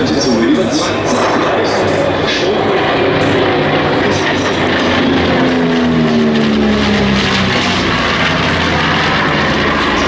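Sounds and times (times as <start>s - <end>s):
propeller planes passing overhead: 0.0s - 10.0s.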